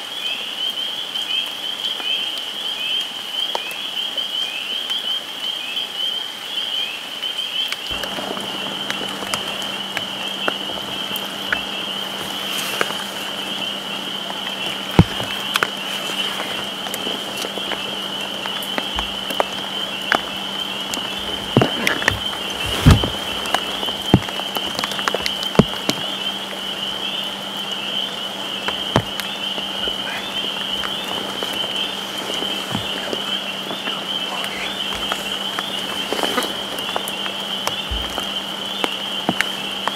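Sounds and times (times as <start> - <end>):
rain falling on leaves: 0.0 - 39.9
frog chorus trilling: 0.1 - 39.9
faint low hum: 7.9 - 39.9.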